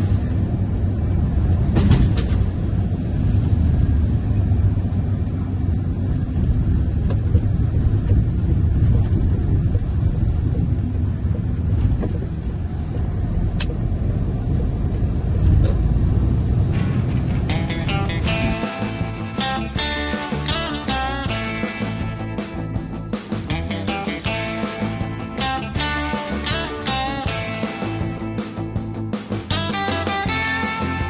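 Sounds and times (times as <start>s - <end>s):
diesel truck engine rumble: 0.0s - 31.0s
tyre and road noise: 0.0s - 31.0s.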